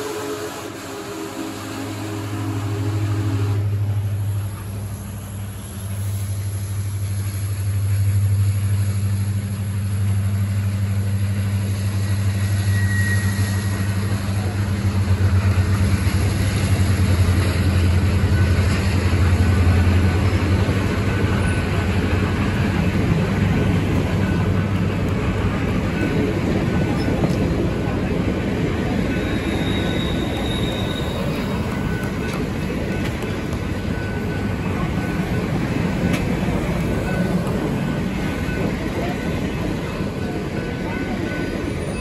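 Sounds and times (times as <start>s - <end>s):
locomotive low drone: 0.0s - 42.0s
wheel and rail noise: 0.0s - 42.0s.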